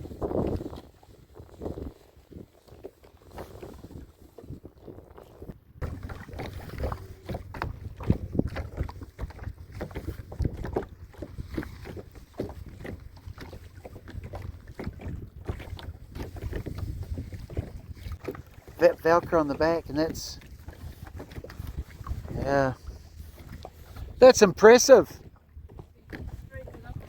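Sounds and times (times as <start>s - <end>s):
wind rumble on microphone: 0.0s - 24.3s, 25.1s - 27.0s.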